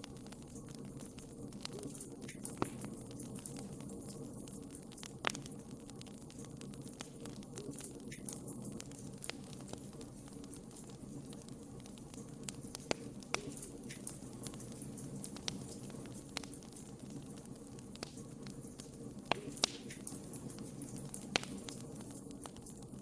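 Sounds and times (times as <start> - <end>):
fire crackling and popping: 0.0 - 23.0
low rumble of flame: 0.0 - 23.0.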